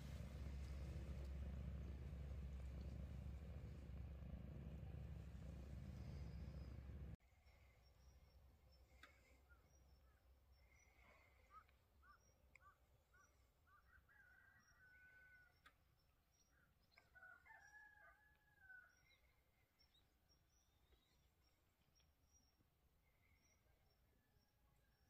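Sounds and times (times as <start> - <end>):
faint distant bird calls: 0.0 - 25.0.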